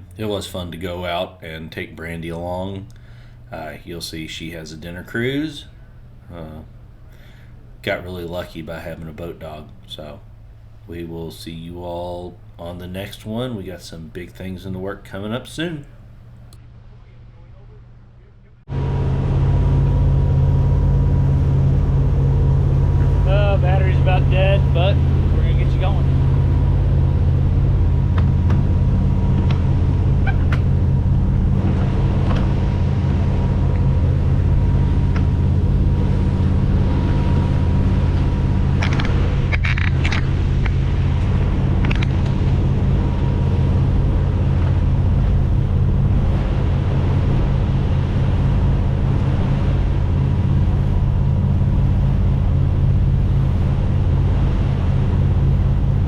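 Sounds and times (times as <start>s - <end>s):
boat engines droning: 0.0s - 56.0s.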